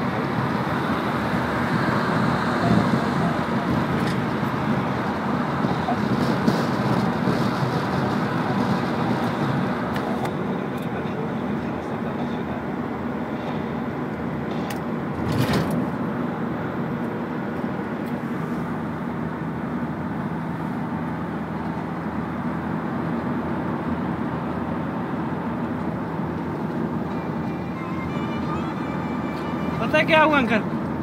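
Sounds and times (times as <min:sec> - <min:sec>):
road and engine noise in vehicle cabin: 0:00.0 - 0:31.0.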